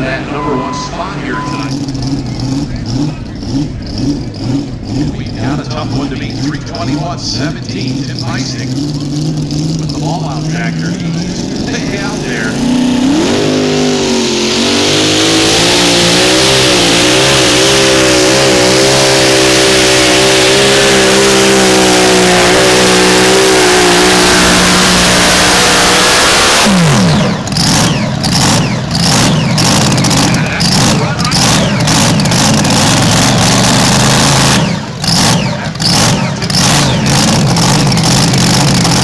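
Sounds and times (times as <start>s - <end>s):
tractor engine running flat out: 0.0s - 39.0s
engine pops and crackles: 1.7s - 15.8s, 19.4s - 39.0s.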